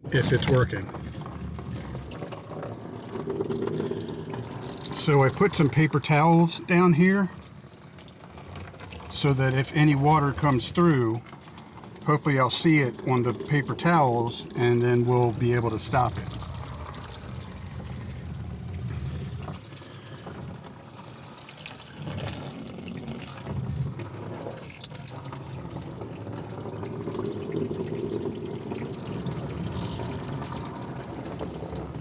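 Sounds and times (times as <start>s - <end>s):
water pouring over truck door: 0.0s - 32.0s.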